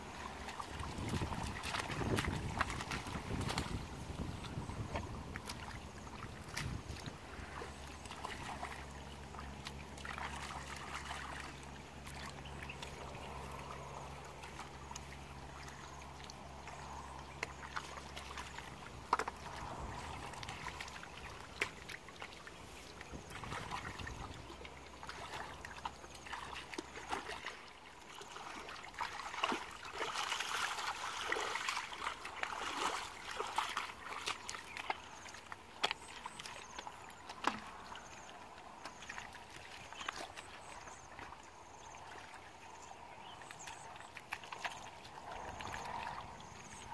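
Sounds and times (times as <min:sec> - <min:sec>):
hands splashing in muddy water: 0:00.0 - 0:41.4
small splashes and clicks: 0:00.1 - 0:46.9.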